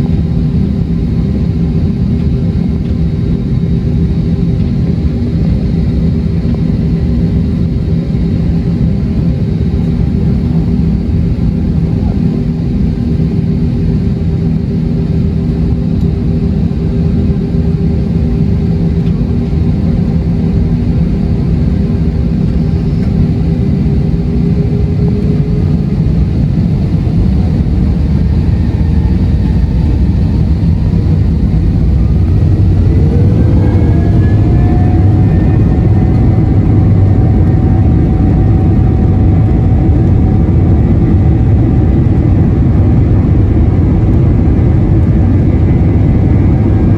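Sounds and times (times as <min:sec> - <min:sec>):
aircraft cabin engine rumble: 0:00.0 - 0:46.9
rising engine whine: 0:00.0 - 0:46.9.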